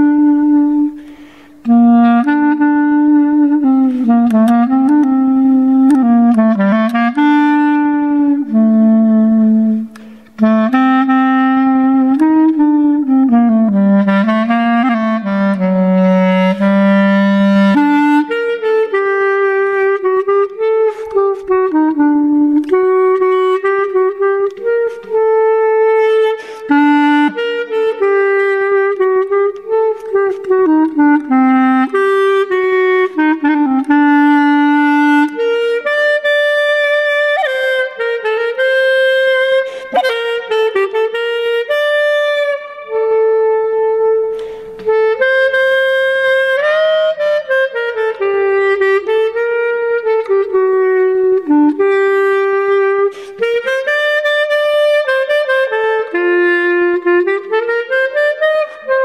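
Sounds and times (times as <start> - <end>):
solo clarinet melody: 0.0 - 59.0.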